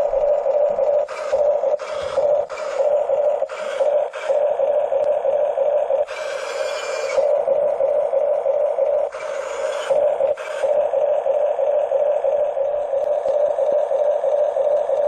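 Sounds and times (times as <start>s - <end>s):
harsh gear grinding: 0.0s - 13.8s
toy bulldozer motor whine: 0.0s - 15.0s.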